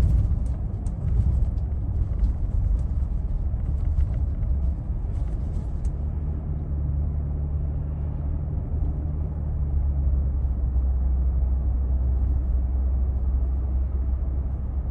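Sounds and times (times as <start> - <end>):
road and drivetrain rumble: 0.0 - 14.9.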